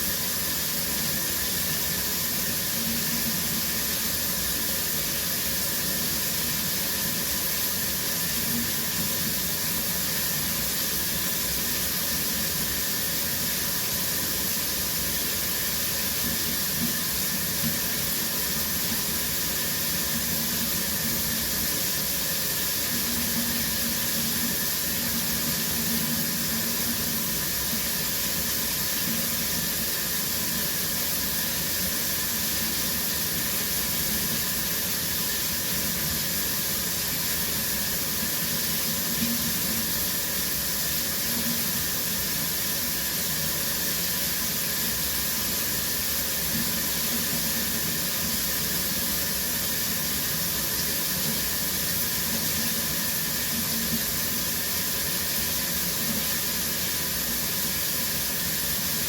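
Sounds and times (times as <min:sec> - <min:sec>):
shower running: 0:00.0 - 0:59.0.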